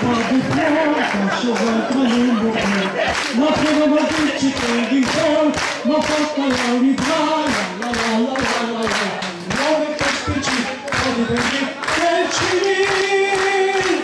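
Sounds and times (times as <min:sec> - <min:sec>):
crowd clapping along: 0:00.0 - 0:14.0
elderly man singing: 0:00.0 - 0:14.0.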